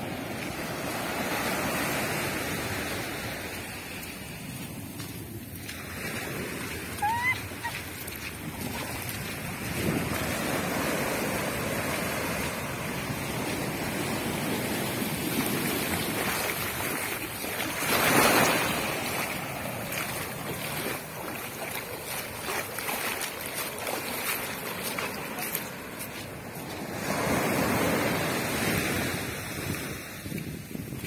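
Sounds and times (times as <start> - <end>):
ocean waves breaking on beach: 0.0 - 31.0.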